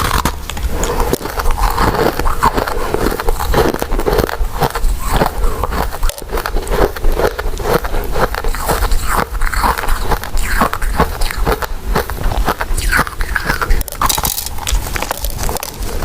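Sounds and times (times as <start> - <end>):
chewing with wet mouth clicks: 0.0 - 16.0.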